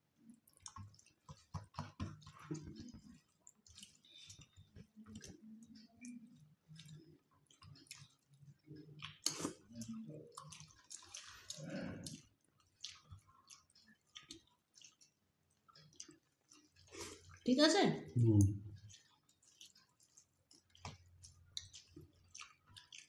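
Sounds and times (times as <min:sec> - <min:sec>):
chewing: 0:00.2 - 0:17.5, 0:18.1 - 0:23.0
fingers mixing rice: 0:00.3 - 0:17.0, 0:18.8 - 0:23.0.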